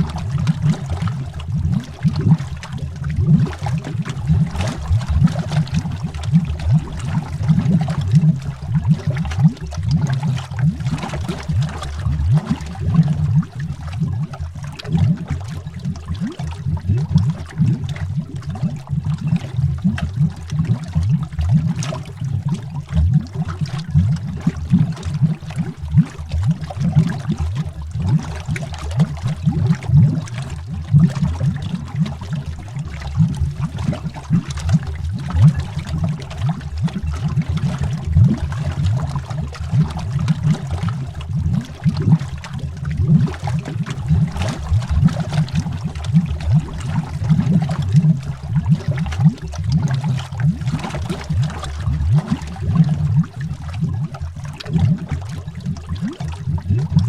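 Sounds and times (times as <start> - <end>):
underwater bubbling: 0.0 - 57.0.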